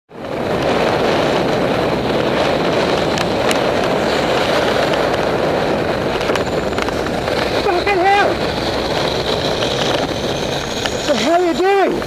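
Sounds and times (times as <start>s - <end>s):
road noise: 0.1s - 12.0s
wind rush on microphone: 0.1s - 12.0s.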